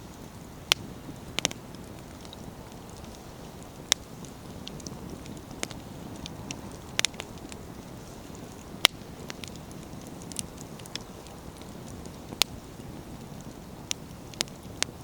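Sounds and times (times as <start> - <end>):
firewood popping and crackling: 0.0 - 15.0
wood fire rumble and hiss: 0.0 - 15.0.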